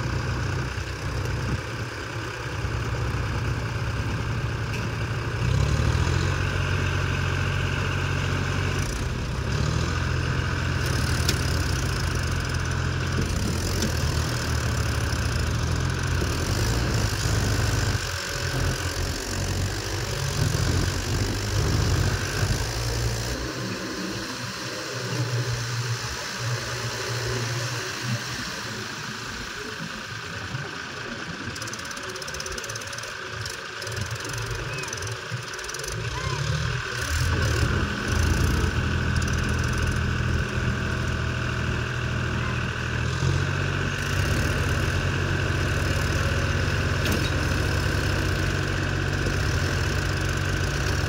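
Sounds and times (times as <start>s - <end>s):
tractor diesel engine labouring: 0.0s - 51.0s.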